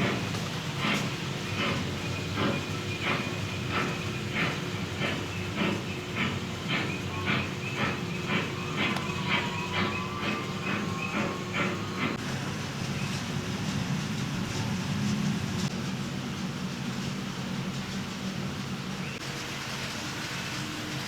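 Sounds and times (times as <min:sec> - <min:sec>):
model train chuffing: 0:00.0 - 0:21.0.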